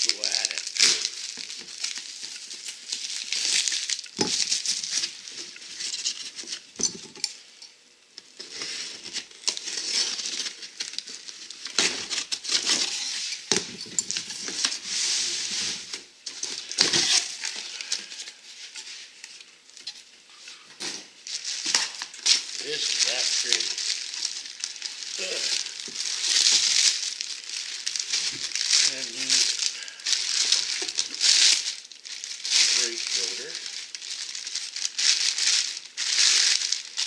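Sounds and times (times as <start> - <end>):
packaging crinkling and rustling: 0.0 - 7.4, 8.2 - 37.0.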